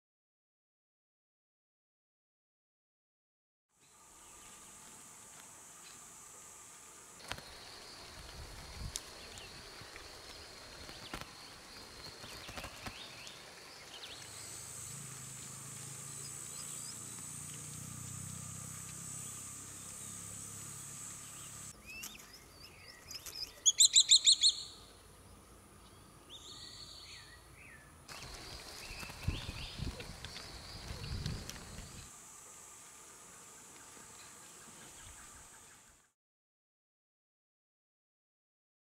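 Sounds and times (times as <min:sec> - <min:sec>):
high insect drone: 0:03.8 - 0:36.2.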